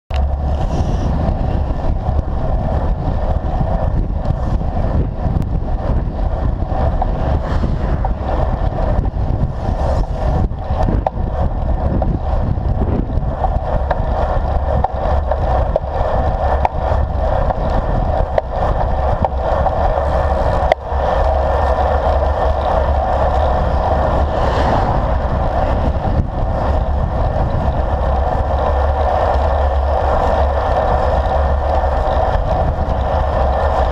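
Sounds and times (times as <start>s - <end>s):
tyres humming on asphalt: 0.1s - 33.9s
wind buffeting camera: 0.1s - 33.9s.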